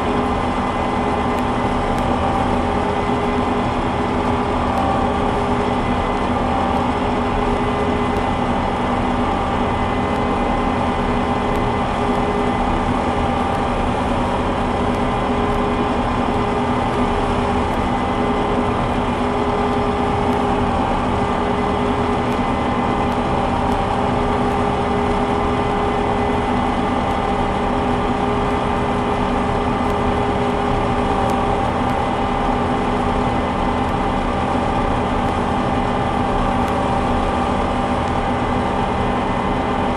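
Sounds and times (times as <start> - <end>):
combine harvester engine rumble: 0.0 - 39.9
whining machine drives: 0.0 - 39.9.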